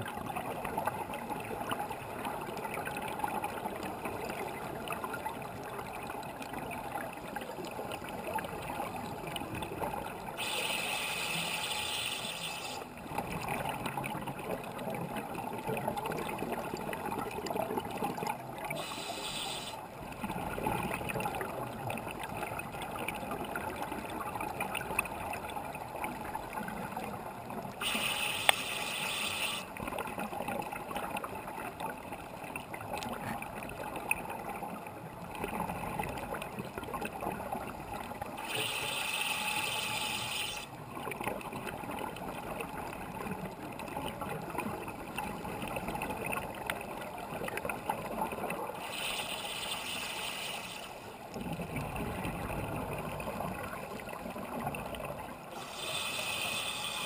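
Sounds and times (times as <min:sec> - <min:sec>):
muffled underwater rumble and hiss: 0:00.0 - 0:57.0.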